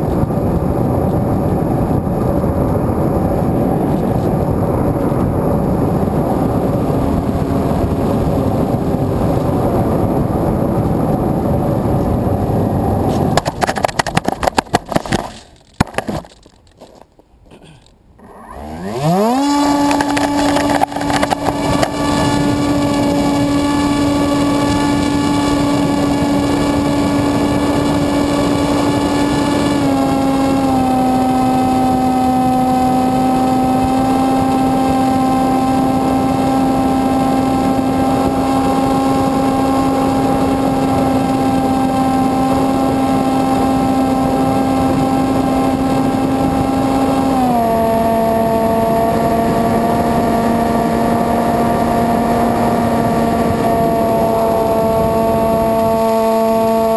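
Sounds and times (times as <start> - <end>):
electric motor and propeller whine: 0.0 - 16.5, 18.2 - 56.9.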